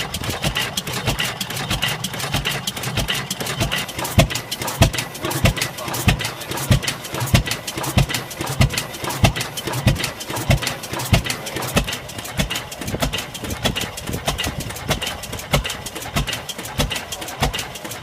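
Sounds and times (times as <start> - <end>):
stationary engine exhaust beat: 0.0 - 18.0.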